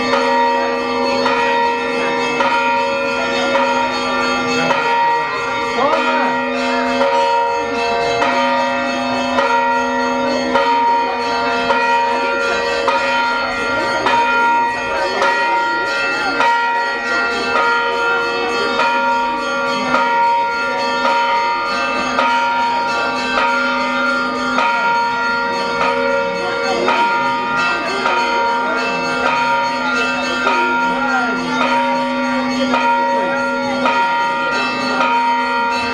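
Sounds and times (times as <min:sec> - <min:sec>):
church bells pealing: 0:00.0 - 0:35.9
low bell tolling: 0:00.0 - 0:35.9.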